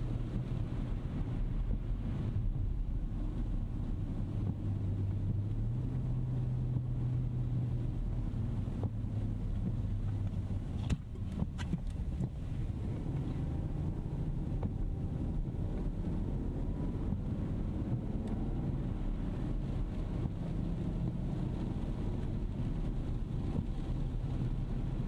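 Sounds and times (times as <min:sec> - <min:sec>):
road and tyre noise in car cabin: 0:00.0 - 0:25.0.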